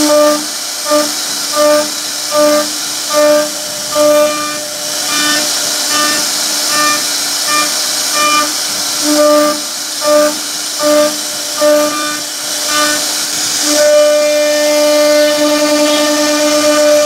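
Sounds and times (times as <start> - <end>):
wood cutting hiss: 0.0 - 17.0
router spindle whine: 1.0 - 10.2, 10.8 - 17.0.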